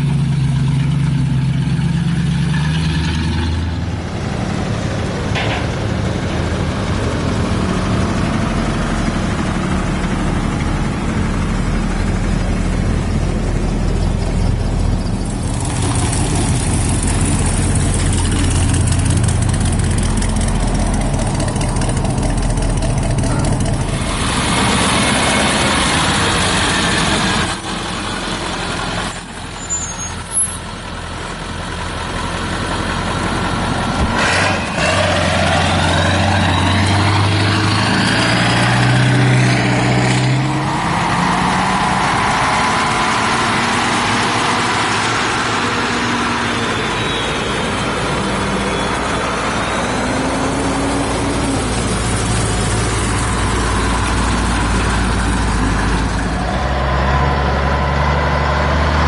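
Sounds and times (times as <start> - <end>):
truck engine rumble: 0.0 - 59.0
truck passing: 0.0 - 59.0.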